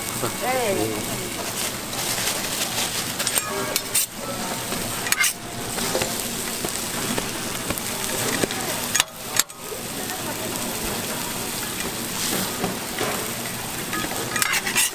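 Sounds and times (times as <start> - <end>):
food sizzling on a griddle: 0.0 - 14.9.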